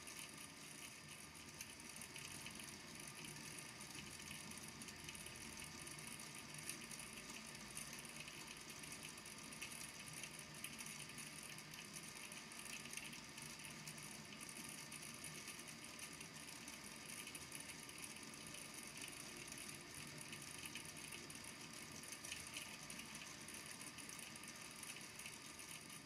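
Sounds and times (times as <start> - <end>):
small balls clicking in water tank: 0.0 - 26.0.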